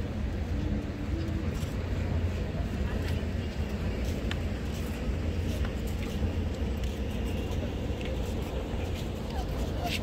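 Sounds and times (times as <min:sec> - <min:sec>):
faint voices of passers-by: 0:00.0 - 0:10.0
low street rumble: 0:00.0 - 0:10.0.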